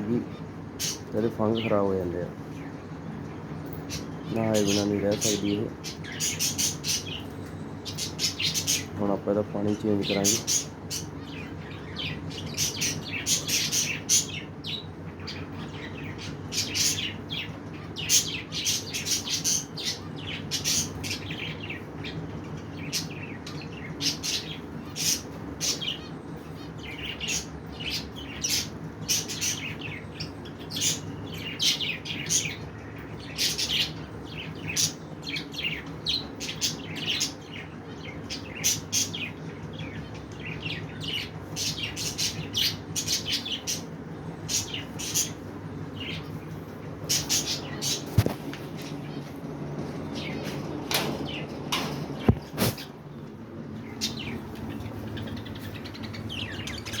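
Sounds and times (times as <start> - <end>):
birds chirping and twittering: 0.0 - 57.0
steady low hum: 0.0 - 57.0.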